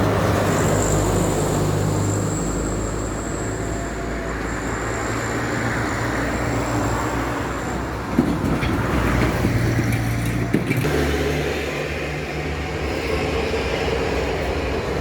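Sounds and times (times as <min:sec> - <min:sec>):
bus engine humming: 0:00.0 - 0:15.0
road traffic noise: 0:00.0 - 0:15.0.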